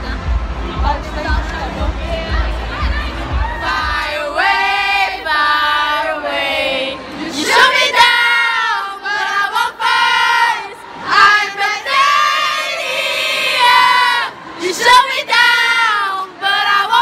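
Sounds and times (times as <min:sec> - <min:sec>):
girls singing in unison: 0:03.1 - 0:17.0.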